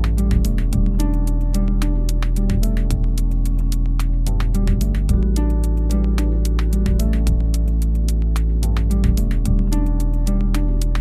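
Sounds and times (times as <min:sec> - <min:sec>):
synthesizer electronic music: 0:00.0 - 0:11.0.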